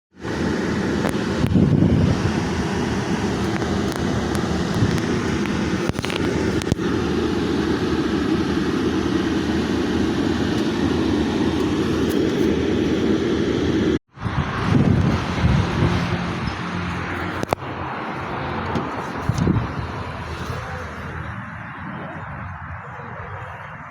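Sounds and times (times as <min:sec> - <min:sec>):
low mechanical rumble: 0:00.2 - 0:23.9.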